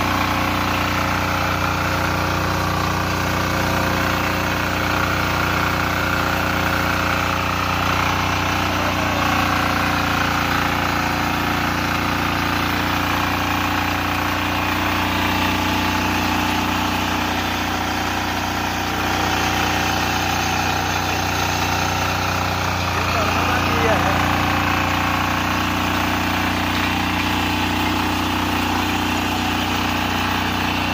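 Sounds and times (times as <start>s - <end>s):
power weeder diesel engine running: 0.0s - 30.9s.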